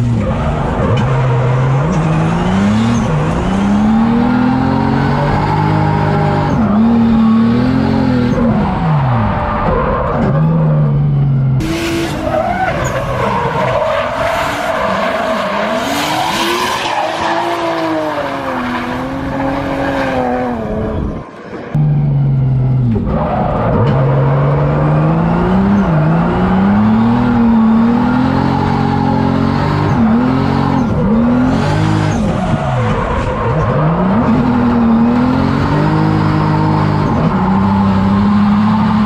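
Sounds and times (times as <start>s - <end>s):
tires skidding and squealing: 0.0s - 10.8s, 11.6s - 21.7s, 25.8s - 39.0s
car engine revving: 0.0s - 39.0s.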